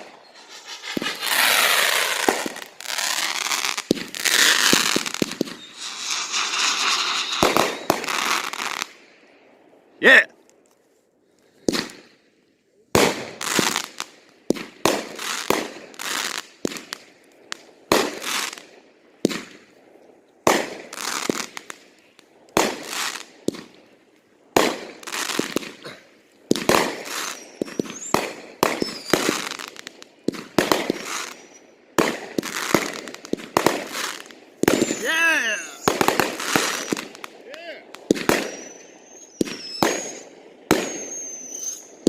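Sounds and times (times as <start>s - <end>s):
fireworks bangs with crackling: 0.0s - 9.0s, 11.6s - 12.1s, 12.9s - 19.8s, 20.4s - 42.0s.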